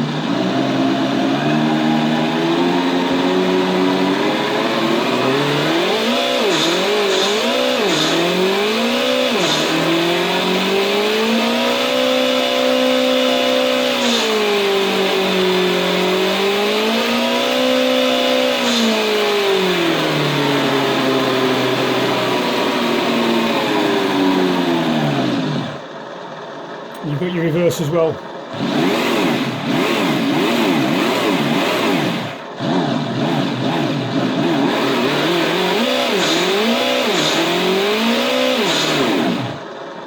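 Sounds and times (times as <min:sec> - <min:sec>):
simulated car engine revving: 0:00.0 - 0:40.0.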